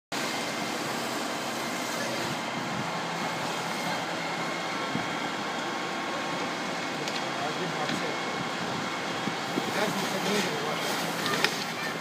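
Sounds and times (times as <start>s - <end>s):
fire engine running: 0.1s - 12.0s
fire hose spraying: 0.1s - 12.0s
faint steady whine: 0.2s - 12.0s.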